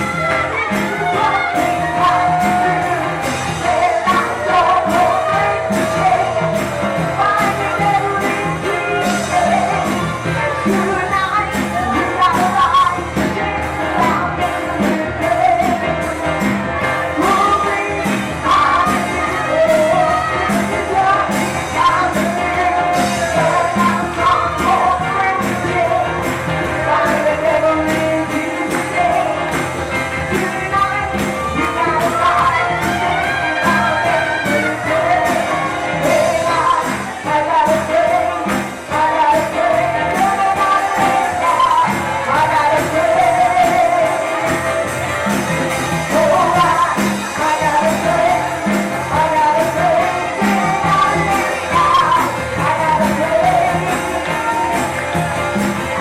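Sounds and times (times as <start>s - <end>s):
band with steady beat: 0.0s - 56.0s
congregation singing: 0.0s - 56.0s.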